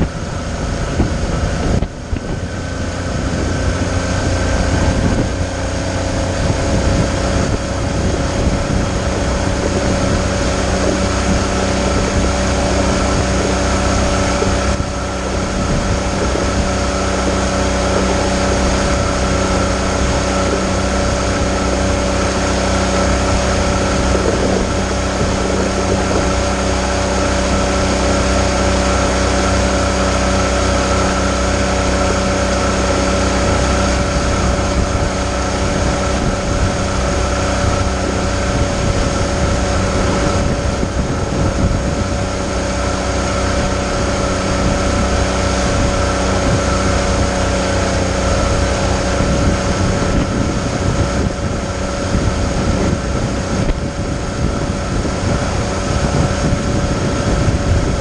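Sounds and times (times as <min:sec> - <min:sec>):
outboard motor running: 0:00.0 - 0:58.0
water splashing against hull: 0:00.0 - 0:58.0.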